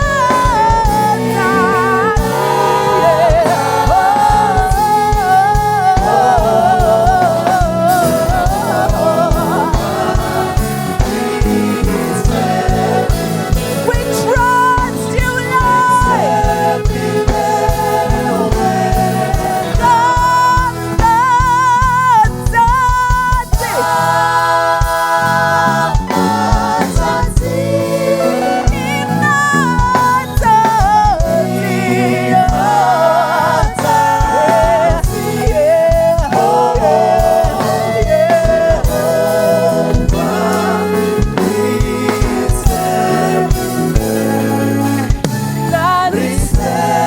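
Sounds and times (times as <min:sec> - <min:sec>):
gospel singers with a band: 0:00.0 - 0:47.0
steady drumbeat: 0:00.0 - 0:47.0.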